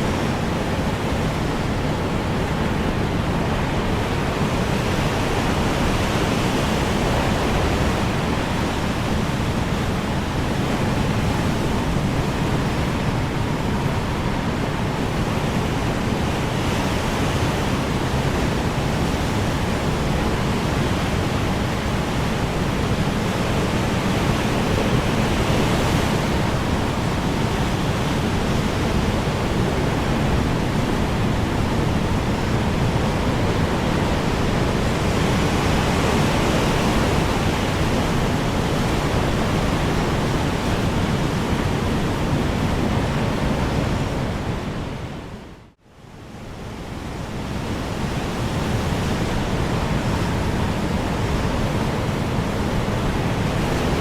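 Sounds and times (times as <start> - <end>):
strong wind blowing: 0.0 - 54.0.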